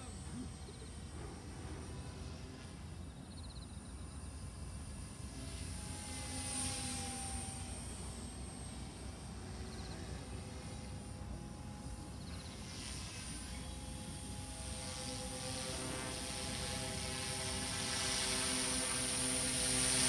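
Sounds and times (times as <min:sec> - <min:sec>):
rc helicopter rotor hum and whine: 0:00.0 - 0:20.0.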